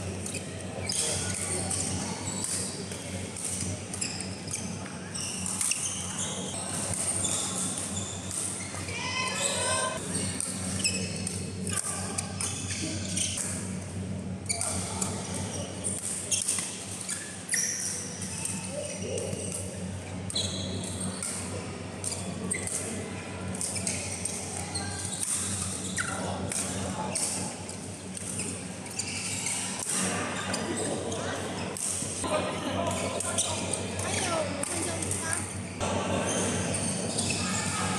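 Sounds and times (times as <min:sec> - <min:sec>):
steady low hum: 0:00.0 - 0:37.9
shoes squeaking on court: 0:00.1 - 0:22.9, 0:23.5 - 0:32.3, 0:32.9 - 0:37.9
voices calling and chatting: 0:00.1 - 0:37.9.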